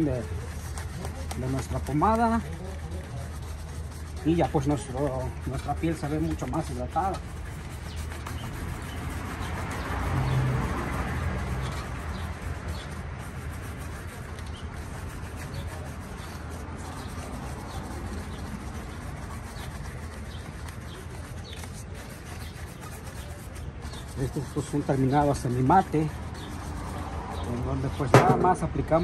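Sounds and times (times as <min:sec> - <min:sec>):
street background rumble: 0:00.0 - 0:29.0.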